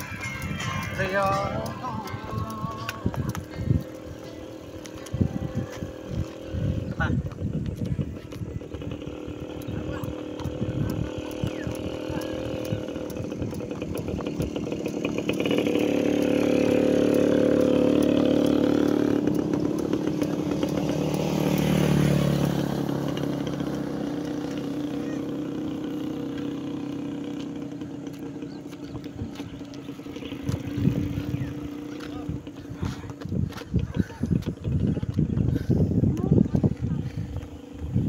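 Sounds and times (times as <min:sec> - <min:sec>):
vehicle engines droning: 0:00.0 - 0:38.0
vehicle passing close: 0:00.0 - 0:38.0.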